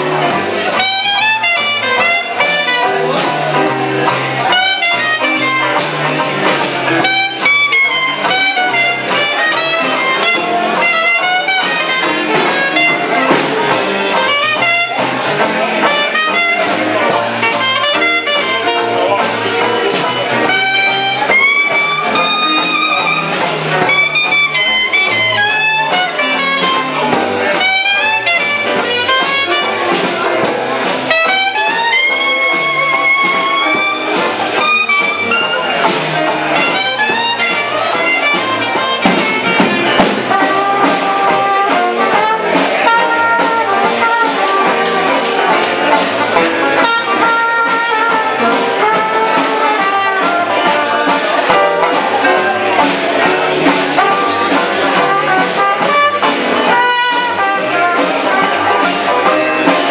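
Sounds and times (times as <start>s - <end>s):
banjo: 0.0s - 59.9s
jazz band playing live: 0.0s - 59.9s
trumpet lead: 0.0s - 59.9s.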